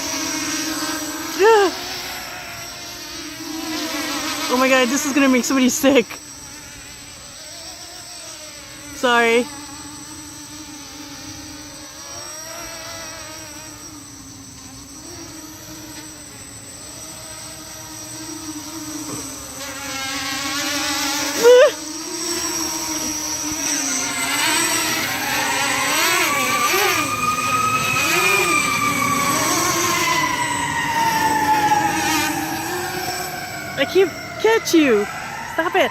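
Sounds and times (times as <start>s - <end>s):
drone propellers whining: 0.0s - 35.9s.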